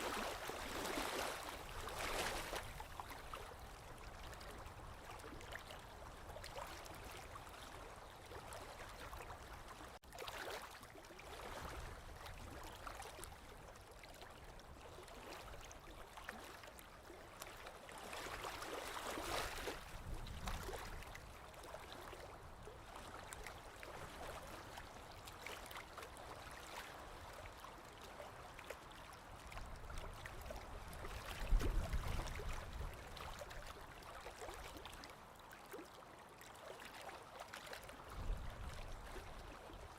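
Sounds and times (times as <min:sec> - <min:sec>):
small waves lapping and gurgling: 0:00.0 - 0:39.9.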